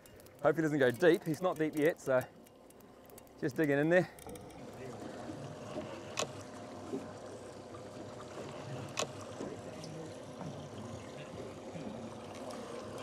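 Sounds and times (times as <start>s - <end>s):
boat motor hum: 0.0s - 13.0s
water rushing along hull: 0.0s - 13.0s.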